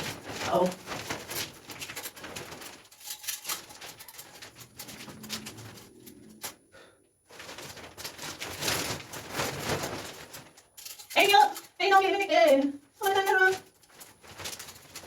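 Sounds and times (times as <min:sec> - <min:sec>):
rustling and scraping: 0:00.0 - 0:15.0.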